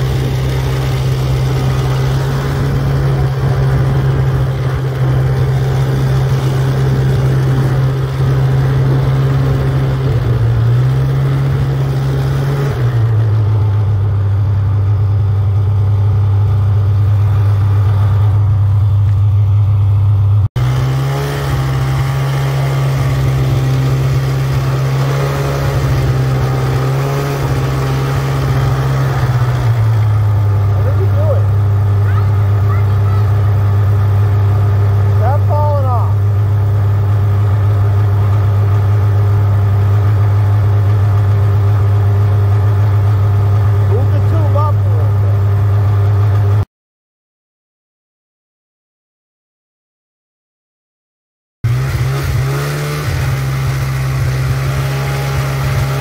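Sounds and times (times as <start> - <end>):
snowmobile engine running: 0.0 - 46.6, 51.6 - 56.0.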